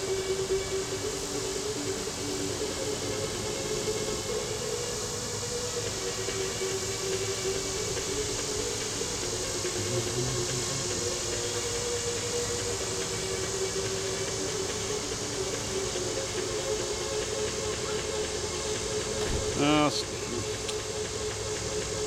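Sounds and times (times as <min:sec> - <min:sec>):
motor humming with hiss: 0:00.0 - 0:22.0.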